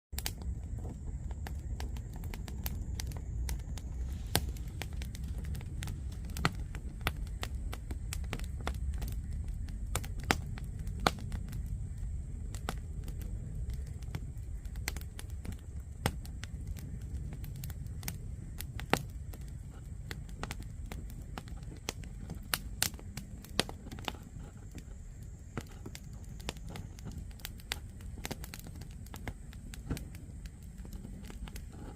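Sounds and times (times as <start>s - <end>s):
low steady rumble: 0.1s - 31.9s
wood fire crackling and popping: 0.1s - 31.9s.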